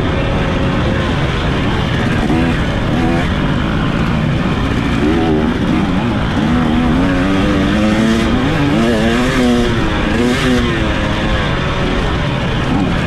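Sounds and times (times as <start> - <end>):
racing engine revving: 0.0 - 13.0
terrain noise: 0.0 - 13.0.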